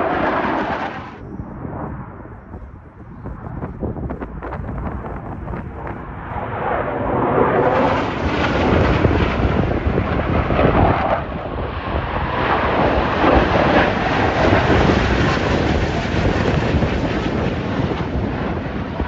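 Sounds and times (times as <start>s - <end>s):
jet engine rumble: 0.0s - 19.0s
wind buffeting microphone: 0.0s - 19.0s.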